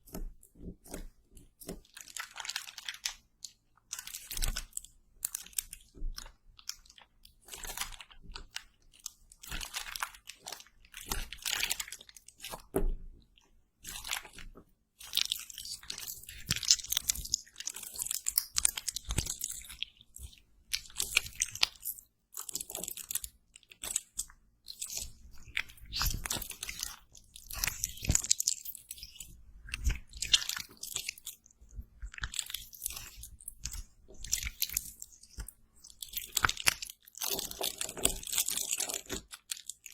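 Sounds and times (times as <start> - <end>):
asmr crunching and crackling: 0.1 - 12.8, 13.8 - 39.9.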